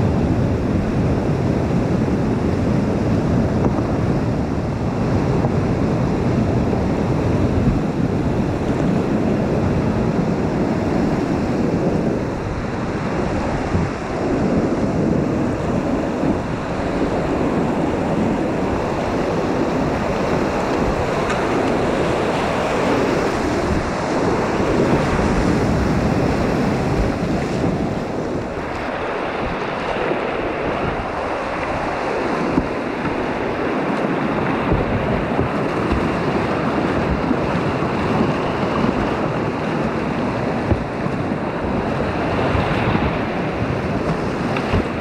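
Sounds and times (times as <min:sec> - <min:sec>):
whitewater rapids rushing: 0:00.0 - 0:45.0.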